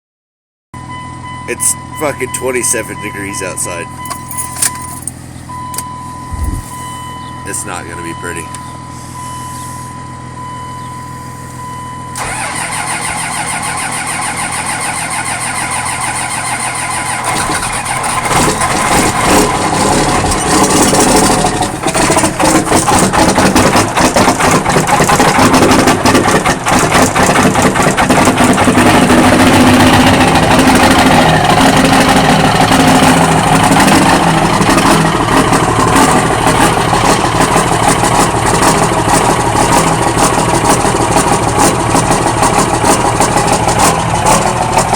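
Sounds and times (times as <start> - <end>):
diesel engine cranking: 0.8 - 44.9
diesel engine idling: 0.8 - 44.9.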